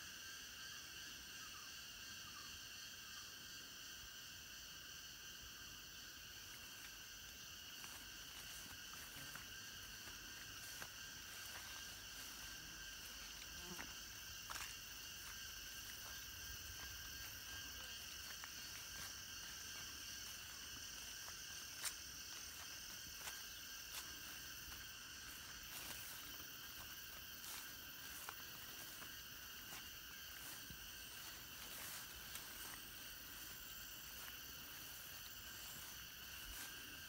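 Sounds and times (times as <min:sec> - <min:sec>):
insect chorus: 0:00.0 - 0:37.0
footsteps through grass and leaves: 0:06.1 - 0:37.0.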